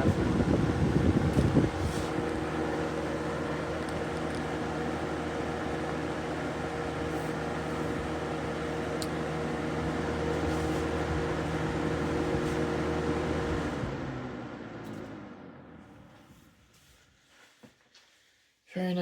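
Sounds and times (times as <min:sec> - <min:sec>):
fan motor hum: 0:00.0 - 0:17.4
fan air rushing: 0:00.0 - 0:17.6.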